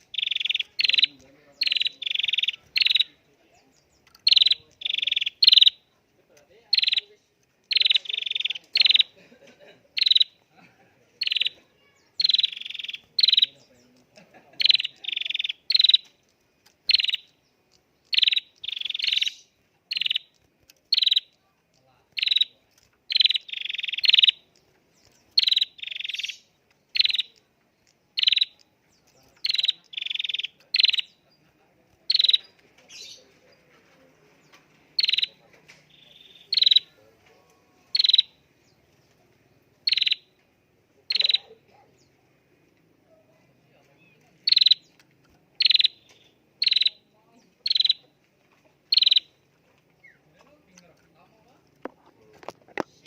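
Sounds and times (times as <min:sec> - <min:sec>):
bird high chirps: 0:00.0 - 0:50.5.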